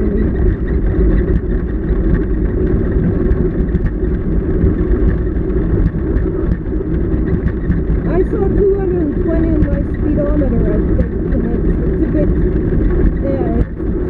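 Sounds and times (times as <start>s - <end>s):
wind and tyres rumbling: 0.0s - 14.0s.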